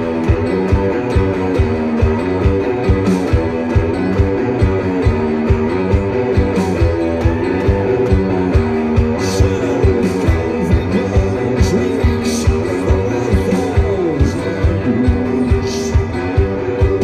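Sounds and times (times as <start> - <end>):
drums beating: 0.0 - 17.0
rock band playing: 0.0 - 17.0.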